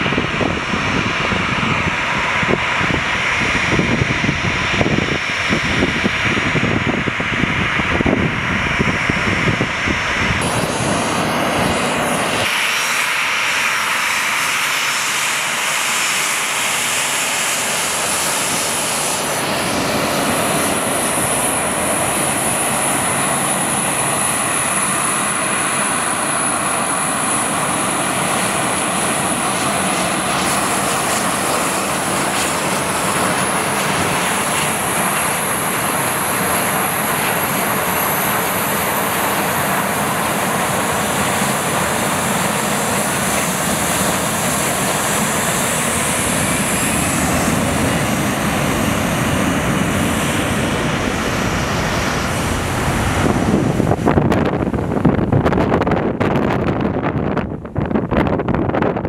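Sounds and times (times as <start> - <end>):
high engine whine: 0.0 - 59.0
jet engine roar: 0.0 - 59.0.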